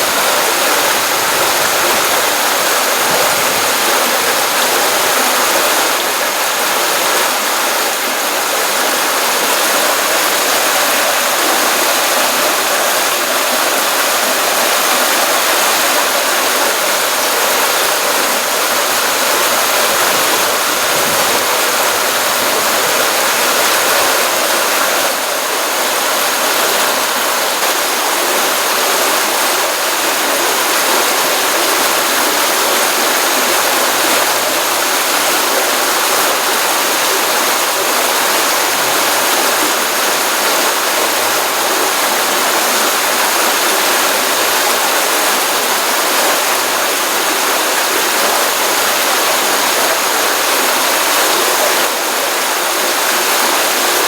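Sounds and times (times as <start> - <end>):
stream water running and splashing: 0.0 - 54.0.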